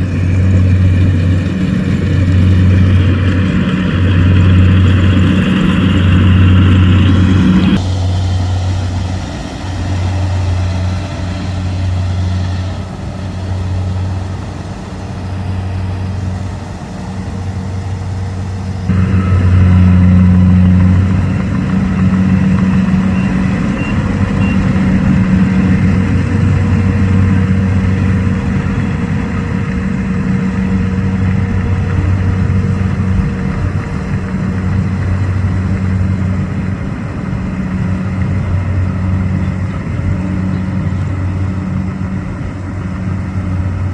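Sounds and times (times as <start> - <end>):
combine harvester humming: 0.0 - 43.9.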